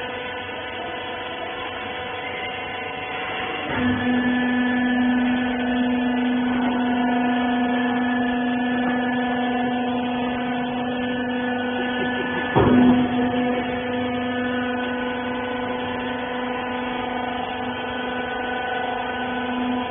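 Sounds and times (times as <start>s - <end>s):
baler motor humming: 0.0s - 19.9s.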